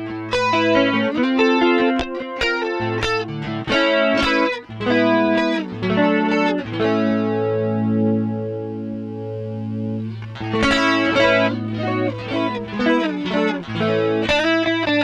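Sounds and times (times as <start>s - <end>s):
electric guitar with chorus: 0.0s - 15.0s.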